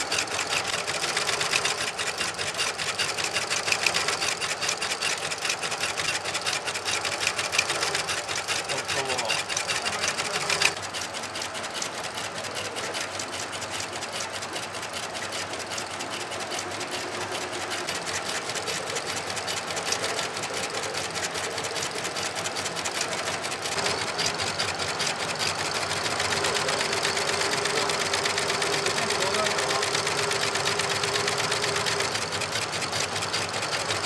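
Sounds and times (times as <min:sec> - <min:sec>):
stitching machine clatter: 0:00.0 - 0:34.0.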